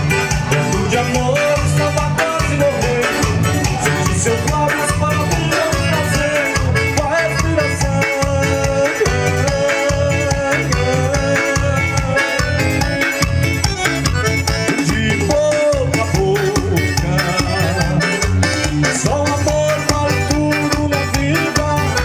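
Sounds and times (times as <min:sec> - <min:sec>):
accordion melody: 0:00.0 - 0:22.0
driving drum and bass beat: 0:00.0 - 0:22.0.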